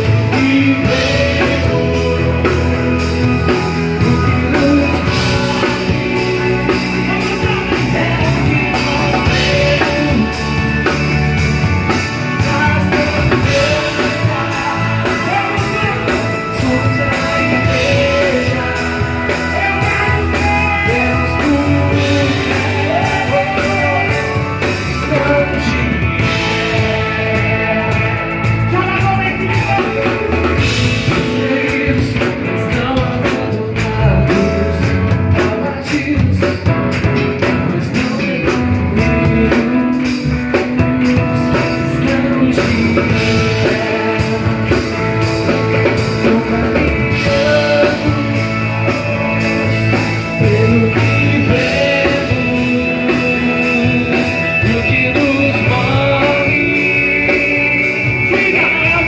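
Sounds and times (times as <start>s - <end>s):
person singing: 0.0s - 59.0s
rock band with drums and guitar: 0.0s - 59.0s.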